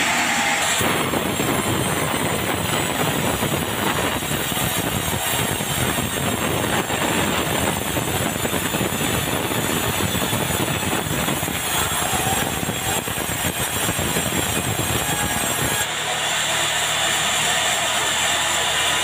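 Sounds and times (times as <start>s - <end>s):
sawmill saw running: 0.0s - 19.0s.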